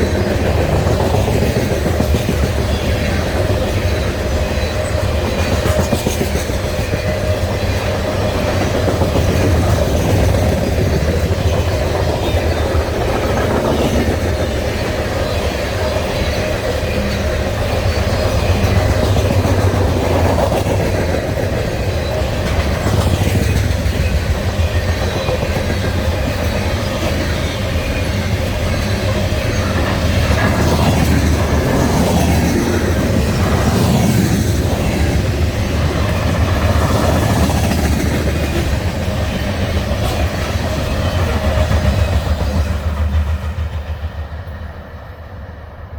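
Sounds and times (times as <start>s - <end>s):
train wheels rumbling over rails: 0.0s - 45.9s.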